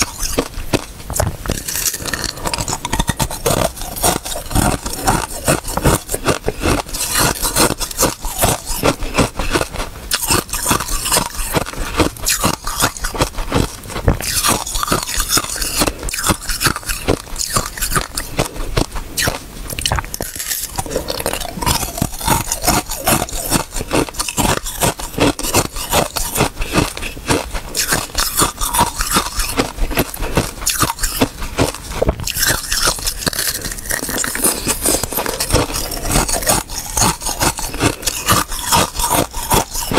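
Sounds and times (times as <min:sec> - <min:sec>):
biting and chewing ice: 0:00.0 - 0:39.9.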